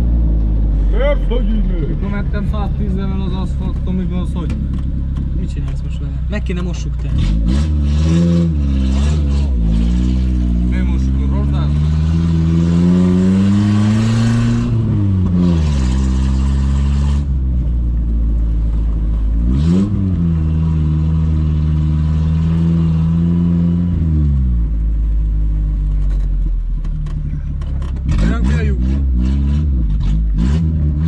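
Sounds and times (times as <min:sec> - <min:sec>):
off-road engine revving: 0:00.0 - 0:31.0.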